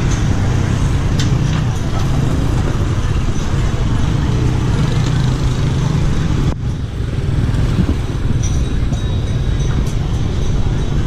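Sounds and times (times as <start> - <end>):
people's voices: 0.0 - 11.0
scooters and motorbikes passing: 0.0 - 11.0.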